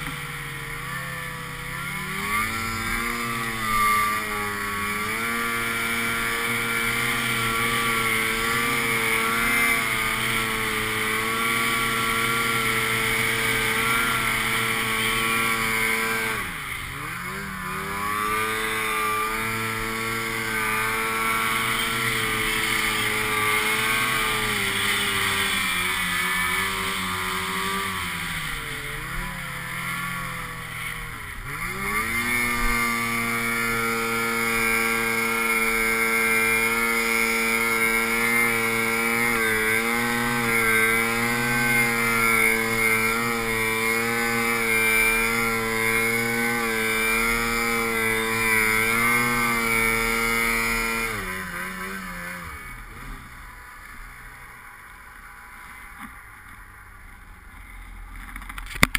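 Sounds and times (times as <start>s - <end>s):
snowmobile engine revving: 0.0s - 58.9s.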